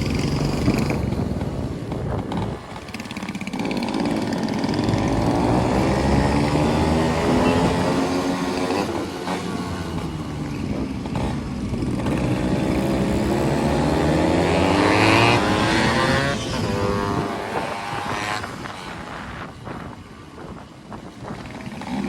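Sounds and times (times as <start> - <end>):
motorcycle engine revving: 0.0 - 22.0
motorcycle engines running: 0.0 - 22.0.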